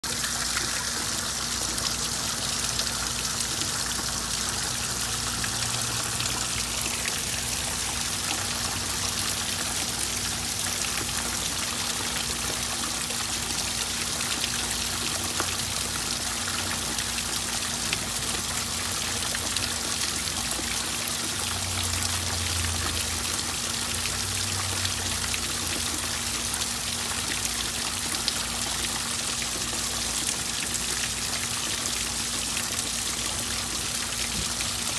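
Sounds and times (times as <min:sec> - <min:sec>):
rain pattering on pond water: 0:00.0 - 0:34.9
water trickling into pond: 0:00.0 - 0:34.9.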